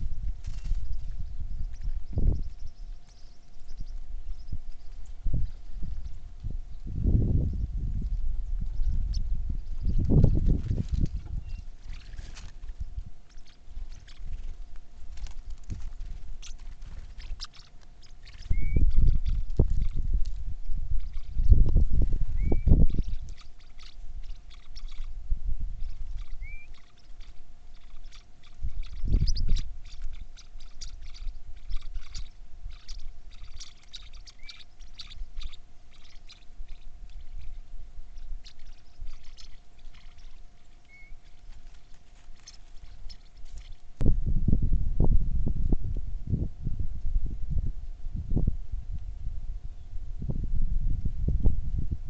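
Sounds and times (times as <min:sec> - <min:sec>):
small birds chirping: 0:00.0 - 0:44.0
faint steady hum: 0:00.0 - 0:52.0.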